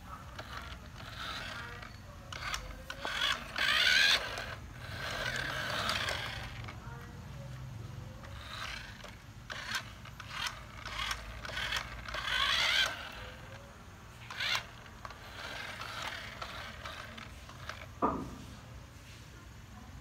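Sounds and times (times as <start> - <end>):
toy excavator gear motors: 0.0 - 18.2.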